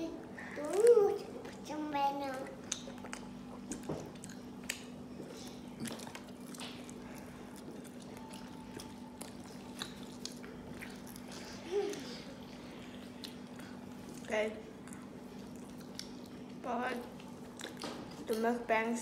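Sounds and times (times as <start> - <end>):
steady low hum: 0.0 - 19.0
chewing crispy fried chicken: 2.6 - 18.4.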